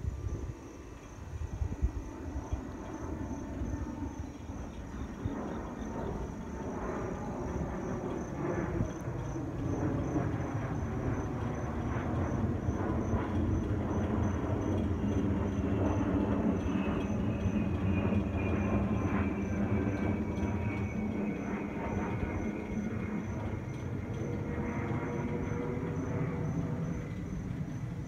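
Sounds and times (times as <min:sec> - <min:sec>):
jet airliner passing overhead: 0:00.0 - 0:28.0.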